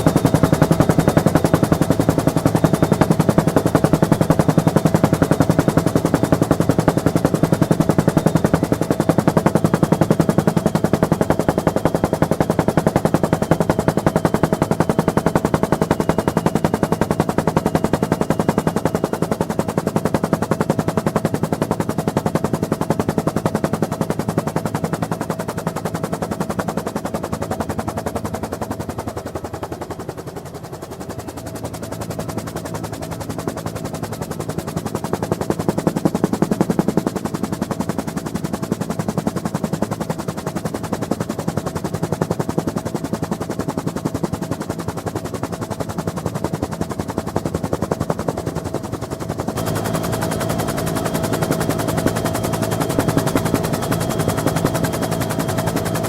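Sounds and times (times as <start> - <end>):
helicopter rotor blades chopping: 0.0 - 56.0.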